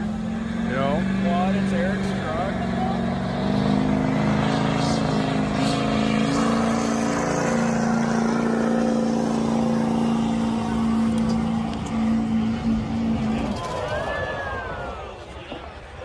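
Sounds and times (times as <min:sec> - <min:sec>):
truck engine revving under load: 0:00.0 - 0:15.6.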